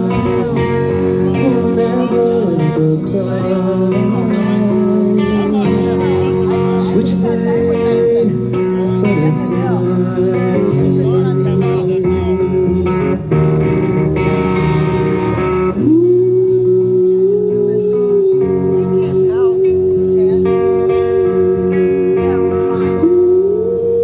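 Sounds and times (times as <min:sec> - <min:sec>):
guitar bending long notes: 0:00.0 - 0:24.0
live hard rock band: 0:00.0 - 0:24.0.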